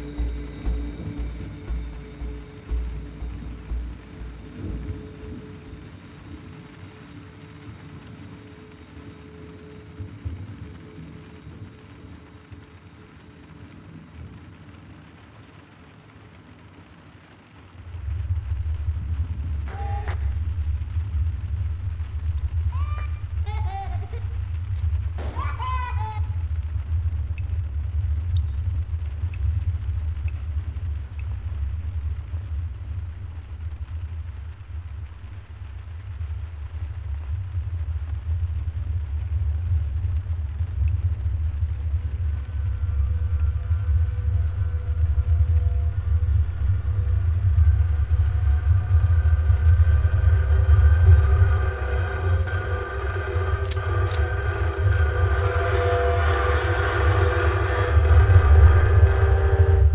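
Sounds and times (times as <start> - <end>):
loud low rumble: 0.0 - 15.1, 17.8 - 59.9
faint hiss: 0.0 - 59.9
low steady rumbling: 0.0 - 59.9.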